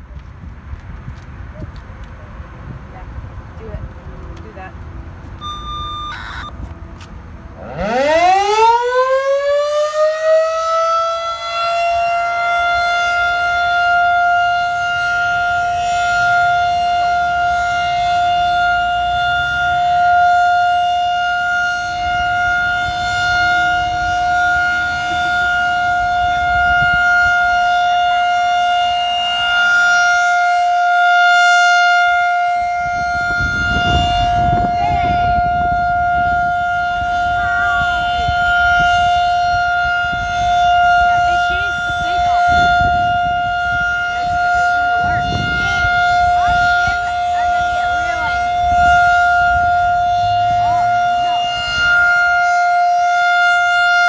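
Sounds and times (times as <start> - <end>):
rotating siren steady tone: 5.4 - 6.7, 7.6 - 54.0.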